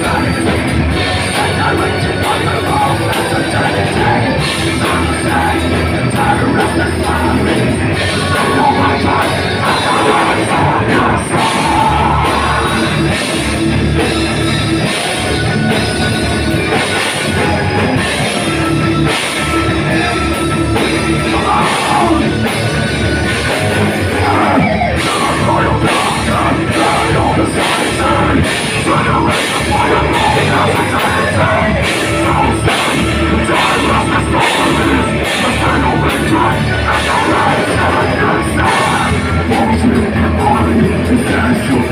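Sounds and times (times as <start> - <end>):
bass guitar: 0.0 - 41.9
distorted electric guitars: 0.0 - 41.9
pounding drum kit: 0.0 - 41.9.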